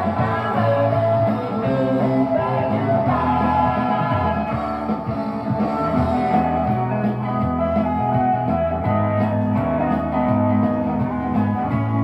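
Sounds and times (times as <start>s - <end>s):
rock song with singing and guitar: 0.0s - 12.0s.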